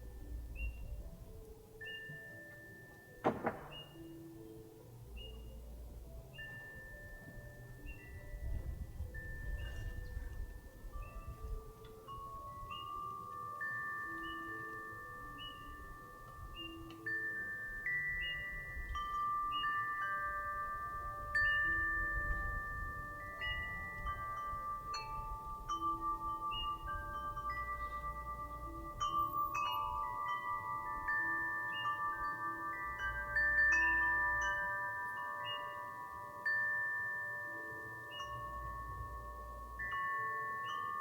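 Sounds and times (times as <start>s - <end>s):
wind chimes ringing: 0.0s - 41.0s.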